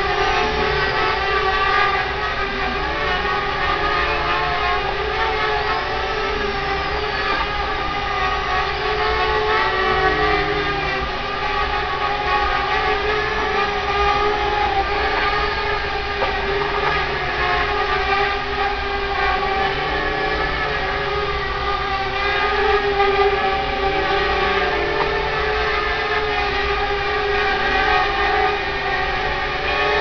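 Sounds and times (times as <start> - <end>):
drone hovering: 0.0 - 30.0.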